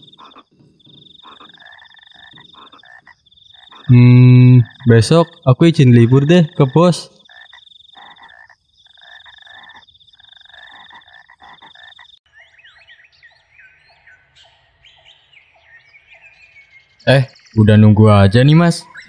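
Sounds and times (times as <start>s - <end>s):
birds chirping: 0.0s - 19.0s
frogs croaking: 0.0s - 19.0s.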